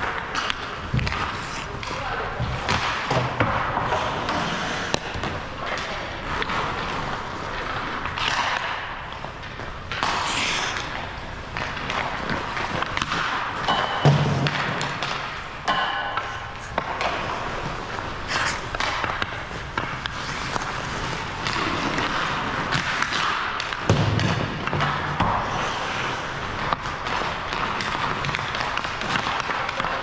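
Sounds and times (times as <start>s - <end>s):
hockey pucks and sticks knocking: 0.0s - 30.0s
puck hitting boards thud: 0.1s - 6.5s, 7.7s - 18.1s, 18.7s - 25.8s, 26.6s - 30.0s.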